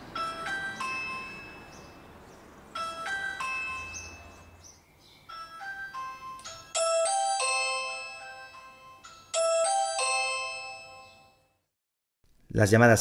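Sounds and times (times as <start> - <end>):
doorbell chime tune: 0.1 - 2.1, 2.8 - 11.6.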